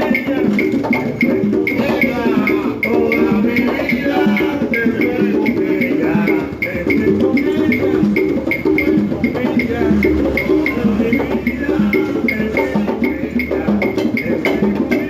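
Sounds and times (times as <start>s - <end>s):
hard block percussion strikes: 0.0s - 15.0s
latin dance music: 0.0s - 15.0s.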